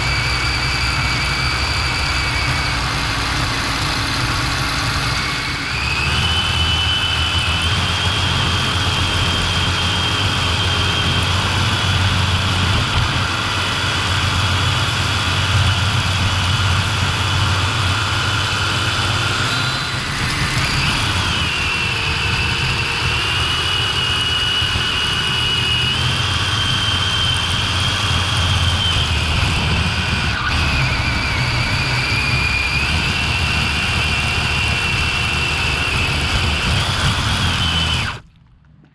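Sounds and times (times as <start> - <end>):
electric motor whining: 0.0 - 38.3.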